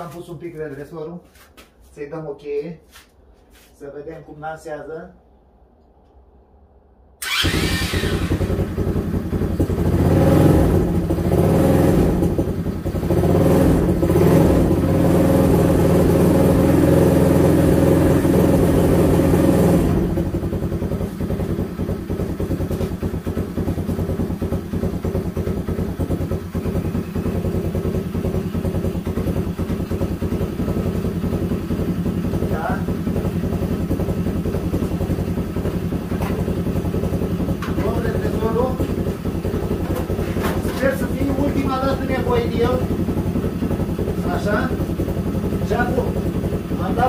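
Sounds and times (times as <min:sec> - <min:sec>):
atv engine revving and idling: 0:07.2 - 0:47.0.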